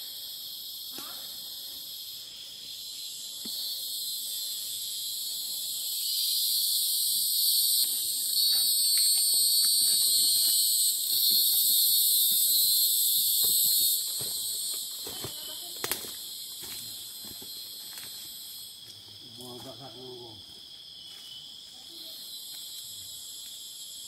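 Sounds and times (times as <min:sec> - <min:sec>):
forest insects shrilling: 0:00.0 - 0:24.0.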